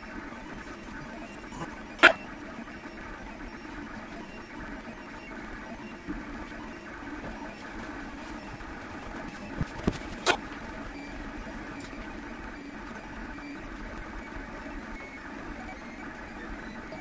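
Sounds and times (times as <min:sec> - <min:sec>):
printer mechanical whir: 0:00.0 - 0:17.0.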